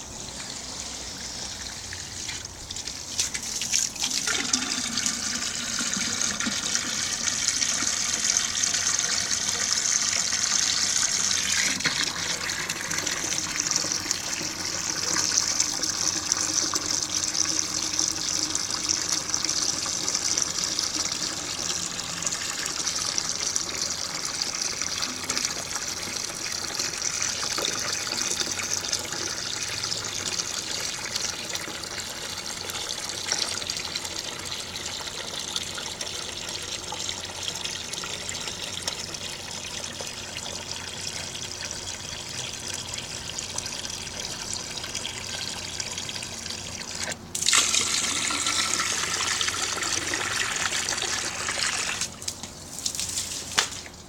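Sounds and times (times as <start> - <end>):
water trickling into toilet tank: 0.1 - 52.4.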